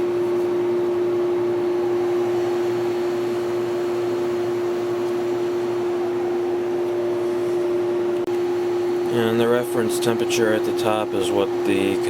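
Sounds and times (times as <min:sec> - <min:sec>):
air conditioner electrical hum: 0:00.0 - 0:12.0
fan rushing air: 0:00.0 - 0:12.0.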